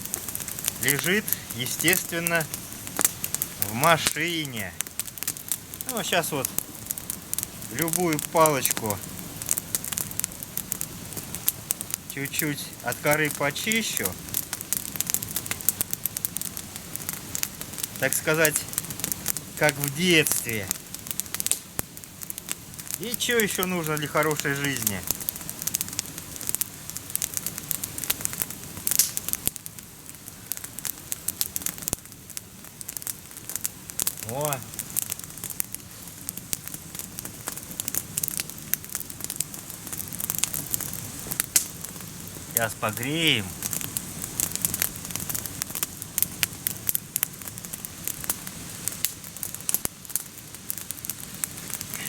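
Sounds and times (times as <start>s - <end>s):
campfire crackling and popping: 0.0s - 52.0s
low hiss of burning: 0.0s - 52.0s.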